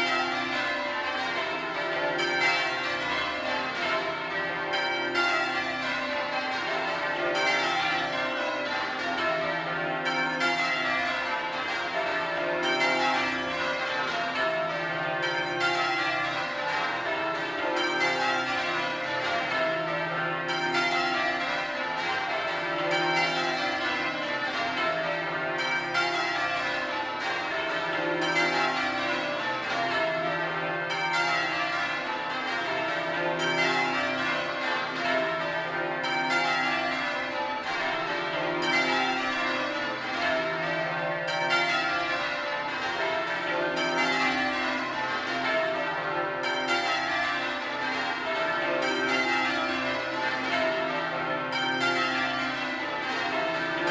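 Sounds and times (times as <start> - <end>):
church bells ringing: 0.0 - 53.9.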